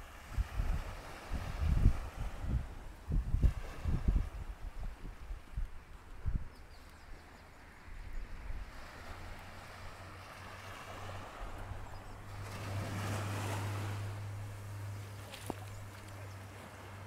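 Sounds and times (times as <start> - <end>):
sea waves washing onto sand: 0.0 - 6.2, 7.6 - 17.0.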